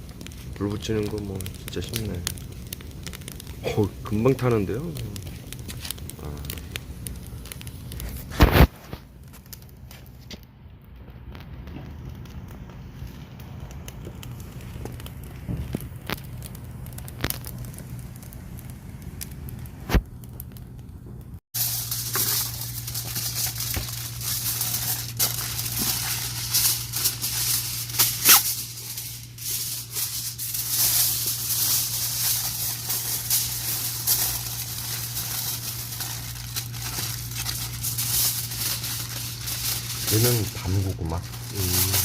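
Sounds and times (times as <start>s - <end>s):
campfire crackling and popping: 0.0s - 42.0s
steady low hum: 1.5s - 9.2s, 10.7s - 42.0s.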